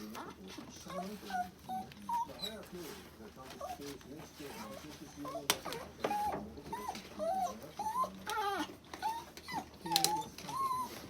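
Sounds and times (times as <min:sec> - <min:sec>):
dog whining: 0:00.0 - 0:02.6, 0:04.5 - 0:11.0.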